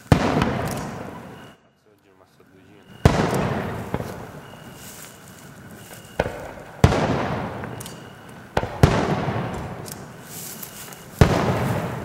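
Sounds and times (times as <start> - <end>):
firework shells bursting: 0.0 - 1.5, 2.8 - 12.0
sharp firework crack: 0.0 - 1.5, 3.0 - 12.0.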